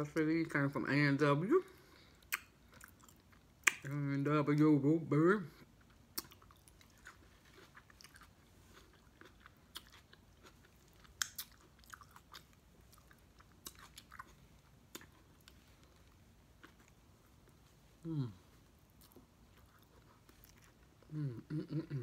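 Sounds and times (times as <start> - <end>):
person chewing food: 1.8 - 4.0, 5.6 - 21.8.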